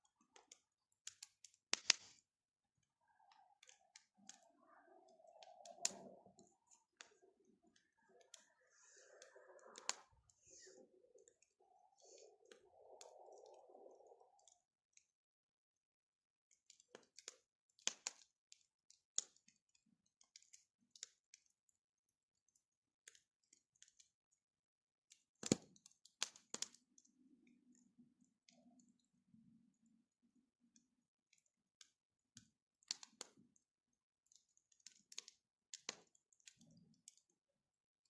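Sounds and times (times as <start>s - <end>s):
faint bonfire crackling: 0.0s - 15.4s, 16.4s - 21.8s, 25.1s - 37.5s.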